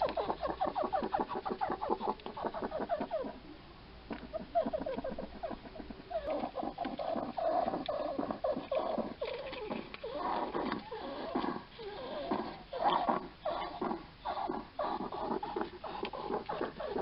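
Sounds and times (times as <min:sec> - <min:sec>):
hedgehog wheezy breathing: 0:00.0 - 0:03.4, 0:04.2 - 0:17.0.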